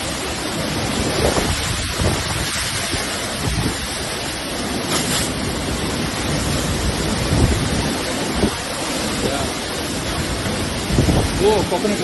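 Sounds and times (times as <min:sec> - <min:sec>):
wind and water rushing: 0:00.0 - 0:12.0
wind gusts buffeting microphone: 0:00.0 - 0:12.0.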